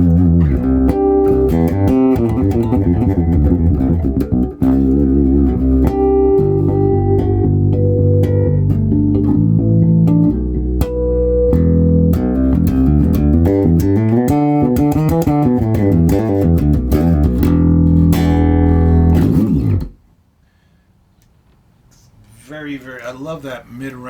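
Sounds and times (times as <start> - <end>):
solo electric bass: 0.0 - 20.1.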